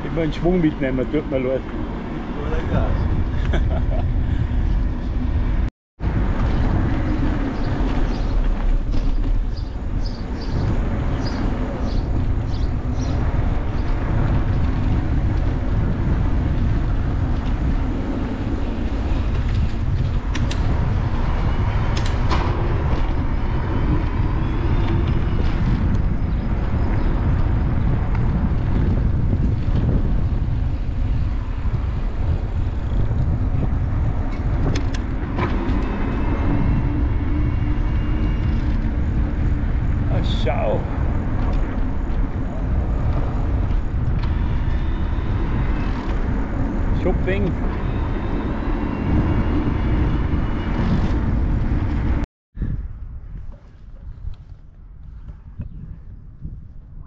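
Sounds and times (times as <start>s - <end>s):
wind rushing over microphone: 0.0s - 57.0s
tyre noise on pavement: 6.0s - 56.9s.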